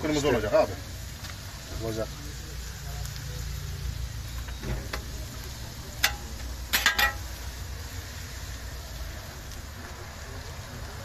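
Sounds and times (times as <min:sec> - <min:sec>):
bread sizzling on griddle: 0:00.0 - 0:11.0.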